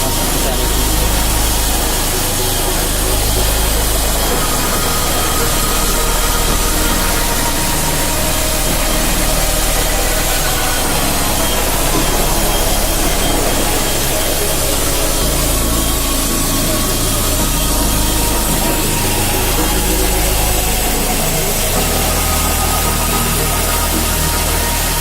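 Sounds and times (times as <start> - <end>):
milling machine running: 0.0 - 25.0.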